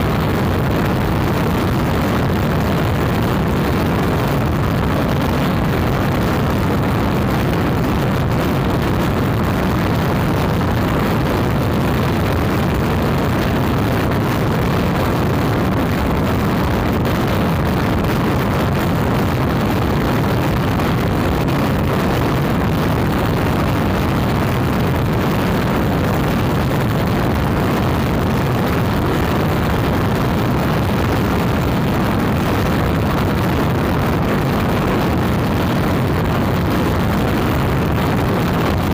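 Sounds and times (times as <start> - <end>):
strong wind on microphone: 0.0 - 38.9.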